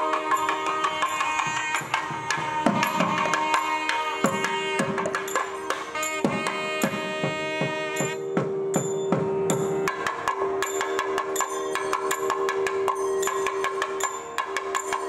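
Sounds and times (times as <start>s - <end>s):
rapid drum strokes: 0.0s - 12.9s
reed pipe melody: 0.0s - 15.0s.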